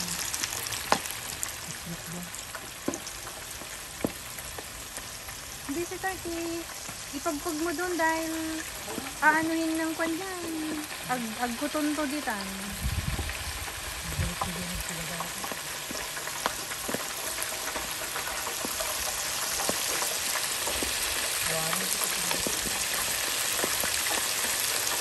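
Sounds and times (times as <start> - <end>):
food deep-frying in oil: 0.0 - 25.0.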